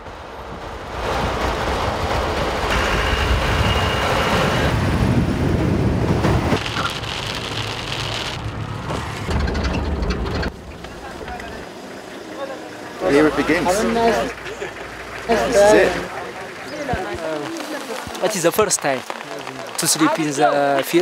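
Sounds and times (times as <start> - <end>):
heavy rain: 0.0 - 21.0
vehicle rumbling: 0.0 - 21.0.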